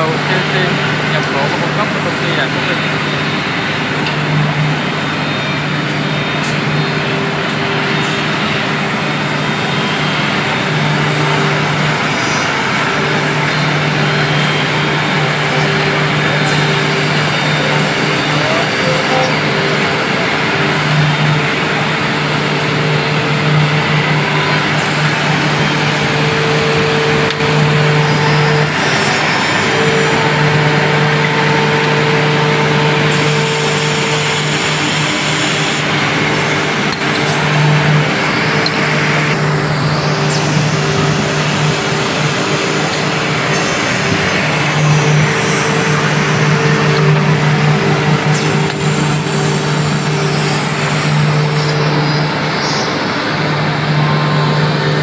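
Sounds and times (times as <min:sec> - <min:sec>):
milling machine running: 0:00.0 - 0:55.0.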